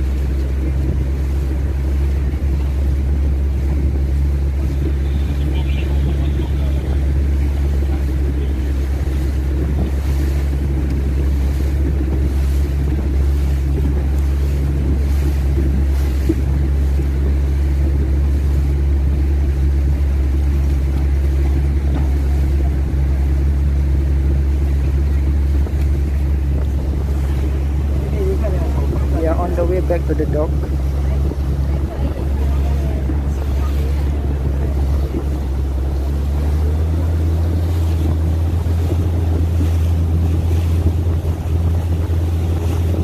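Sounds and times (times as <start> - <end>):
boat engine droning: 0.0 - 43.0
rushing water: 0.0 - 43.0
wind noise: 0.0 - 43.0.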